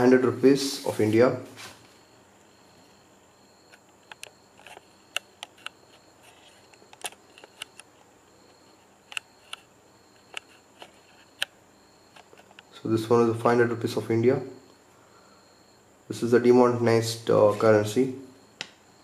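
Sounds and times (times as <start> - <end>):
faint high-pitched whine: 0.0 - 19.0.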